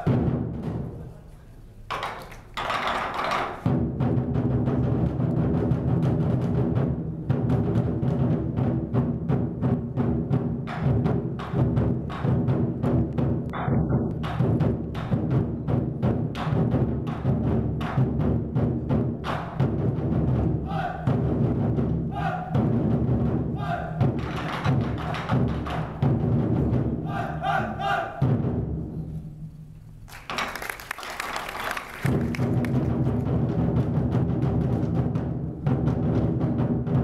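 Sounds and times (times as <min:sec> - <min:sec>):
large barrel drums playing: 0:00.0 - 0:01.2, 0:01.9 - 0:29.5, 0:30.1 - 0:37.0.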